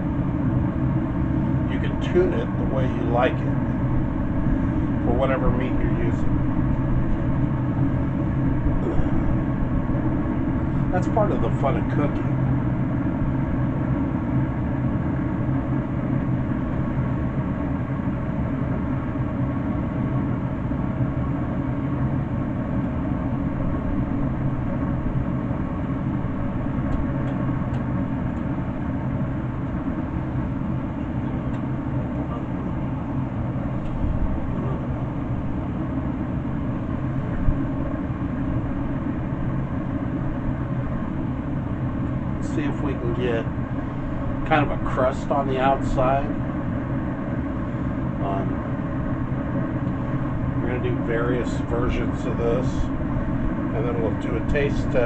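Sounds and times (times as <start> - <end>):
smoker grill humming: 0.0 - 55.0.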